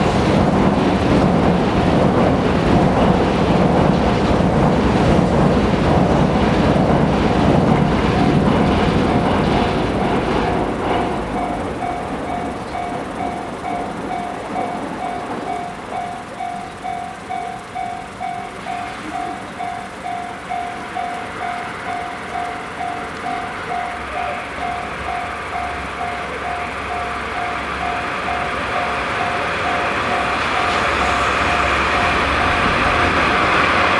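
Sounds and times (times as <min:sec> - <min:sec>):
diesel locomotive passing: 0:00.0 - 0:33.9
level crossing warning bell: 0:00.0 - 0:33.9
train wheels rumbling: 0:00.0 - 0:33.9.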